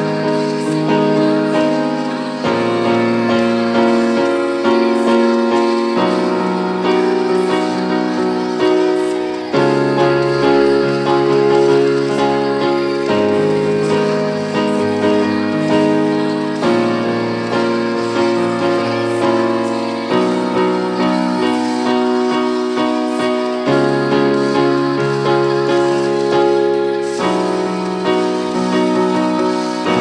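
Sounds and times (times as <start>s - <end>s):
electronic keyboard chords: 0.0s - 30.0s.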